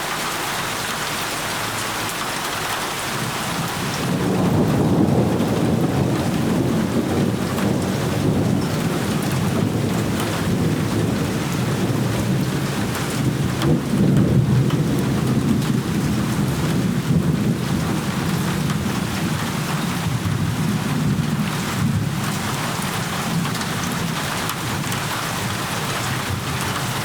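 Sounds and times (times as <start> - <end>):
heavy rain falling: 0.0 - 27.0
thunder rumbling: 3.2 - 27.0.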